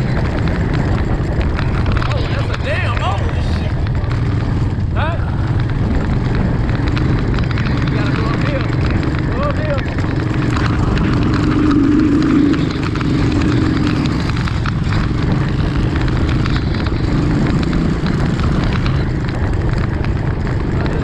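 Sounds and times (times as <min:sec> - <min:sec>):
off-road vehicle engine rumbling: 0:00.0 - 0:21.0.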